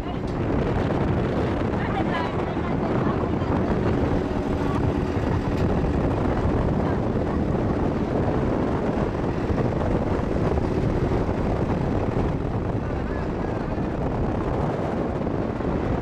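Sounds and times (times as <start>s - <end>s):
truck engine and road noise: 0.0s - 16.0s
wind on microphone: 0.0s - 16.0s.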